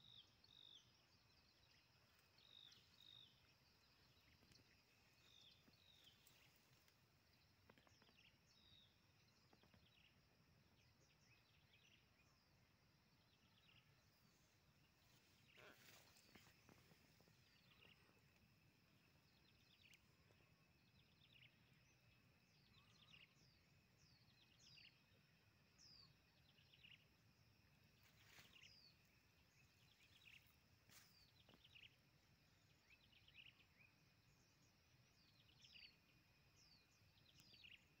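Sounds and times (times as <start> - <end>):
faint bird chirps: 0.0 - 38.0.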